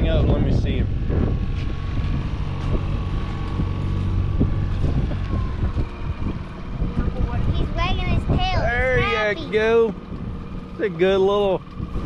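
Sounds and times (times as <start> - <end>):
boat motor droning: 0.0 - 12.0
wind buffeting microphone: 0.0 - 12.0.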